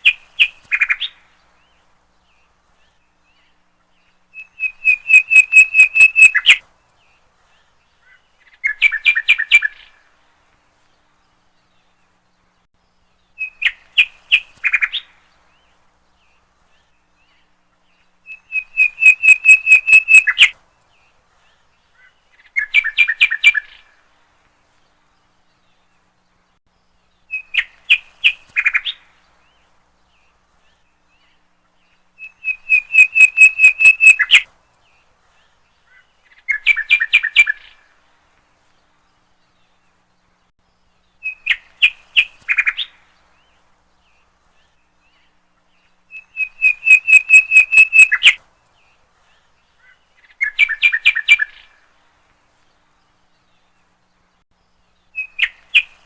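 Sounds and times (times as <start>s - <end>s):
bird chirping: 0.0s - 10.1s, 10.8s - 56.0s.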